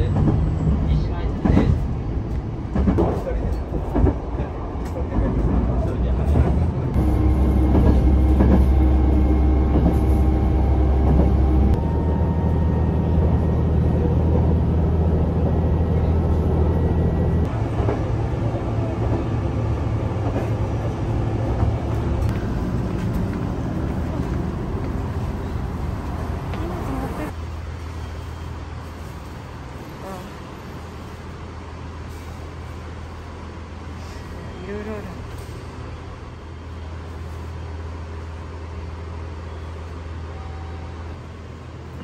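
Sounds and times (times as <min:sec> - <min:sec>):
train cabin low rumble: 0:00.0 - 0:42.0.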